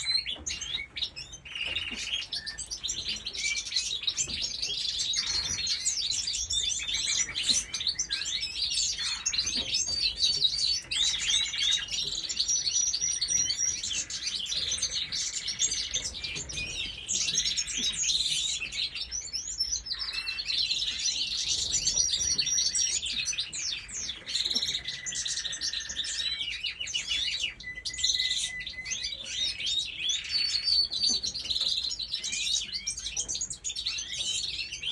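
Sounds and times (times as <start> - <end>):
many small birds chirping: 0.0 - 34.9.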